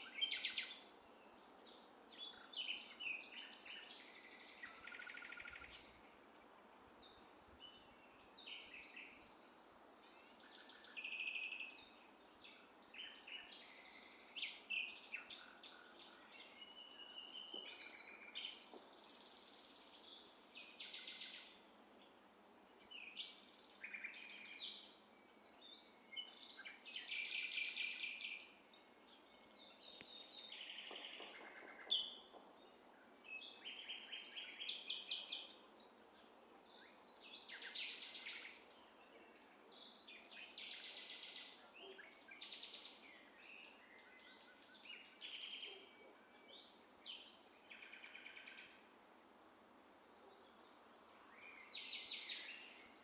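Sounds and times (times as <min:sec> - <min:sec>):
wild birds singing: 0:00.0 - 0:53.0.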